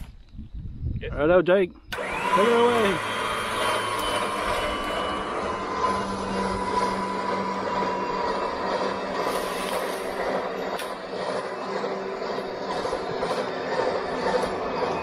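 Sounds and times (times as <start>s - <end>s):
vehicle hauling rope humming: 1.9s - 15.0s.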